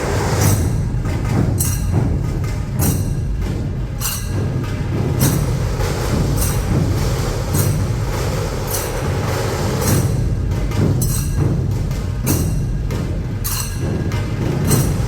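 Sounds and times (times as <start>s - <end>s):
drum ensemble rolling: 0.0s - 15.0s.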